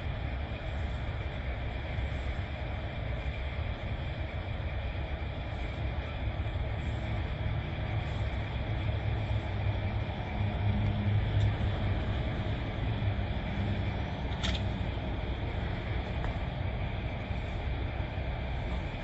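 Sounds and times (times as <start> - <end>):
diesel truck engine rumbling: 0.0 - 19.0.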